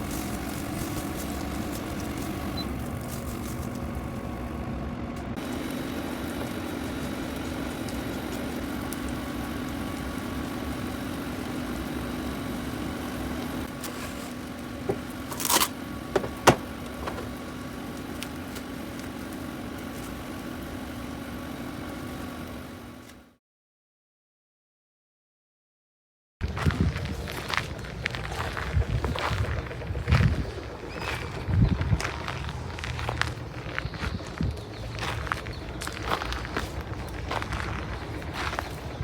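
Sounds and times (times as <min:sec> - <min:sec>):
mechanical hum: 0:00.0 - 0:23.4, 0:26.4 - 0:39.0.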